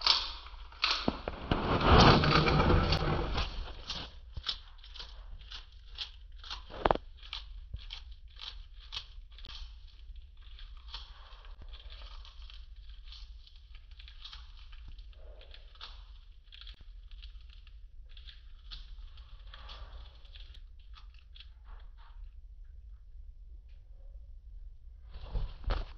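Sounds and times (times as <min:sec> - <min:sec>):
lizard crunching an insect: 0:00.0 - 0:01.8, 0:02.4 - 0:22.2.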